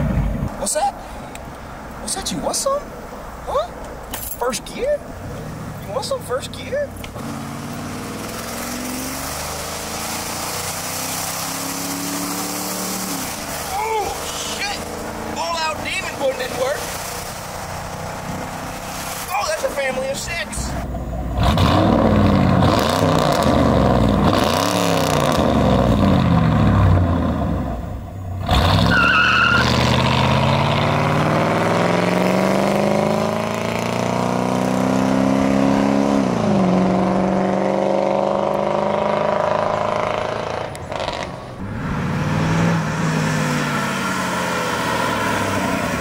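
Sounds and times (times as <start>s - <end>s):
car engine accelerating hard: 5.2s - 46.0s.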